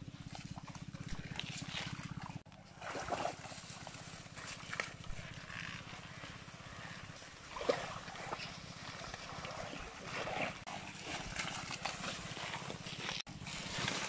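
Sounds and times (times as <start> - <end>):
hands splashing through pond water: 0.0 - 5.2, 7.2 - 14.0.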